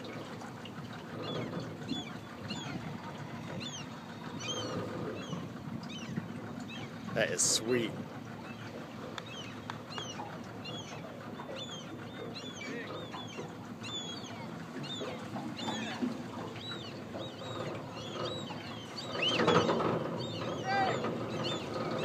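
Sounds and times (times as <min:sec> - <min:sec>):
birds chirping: 0:00.9 - 0:22.0.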